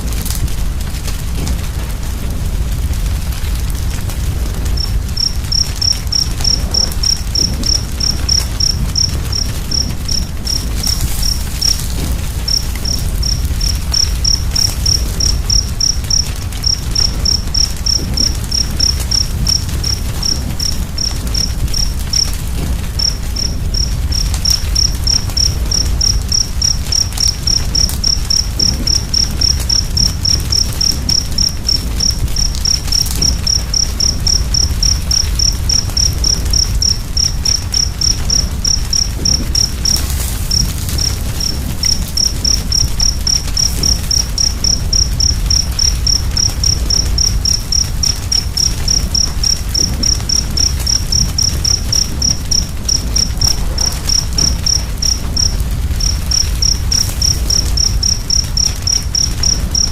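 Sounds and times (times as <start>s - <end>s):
cricket chirping: 0.0s - 59.9s
wood fire crackling: 0.0s - 59.9s.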